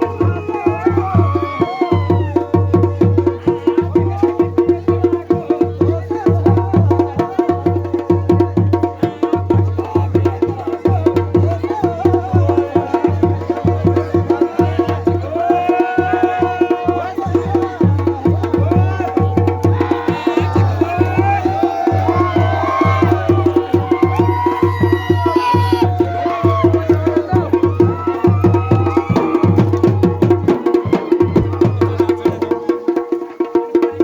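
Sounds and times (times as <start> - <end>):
drums playing fast rhythm: 0.0 - 34.0.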